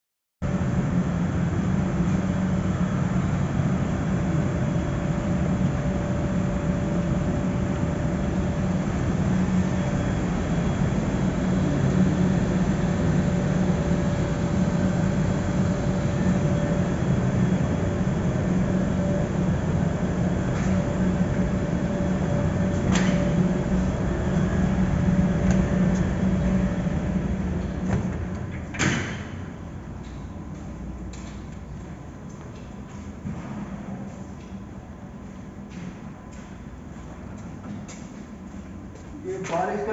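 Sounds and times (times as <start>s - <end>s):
machinery low hum: 0.4s - 39.9s.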